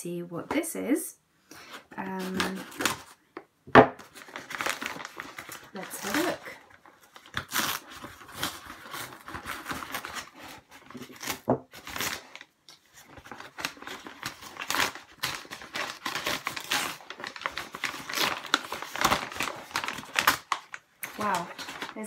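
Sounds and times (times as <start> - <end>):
paper envelope tearing: 2.0 - 3.2, 4.0 - 22.0.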